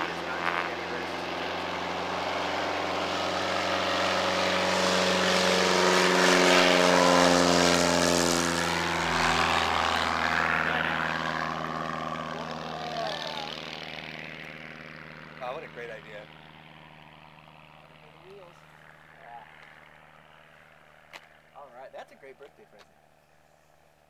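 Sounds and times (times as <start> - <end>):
propeller plane engine passing: 0.0 - 24.0.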